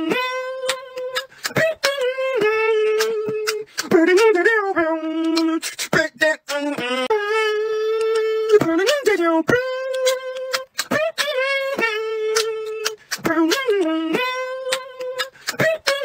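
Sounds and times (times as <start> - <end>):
hummed beatbox notes: 0.0 - 16.0
clicking mouth percussion: 0.1 - 7.0, 7.7 - 16.0.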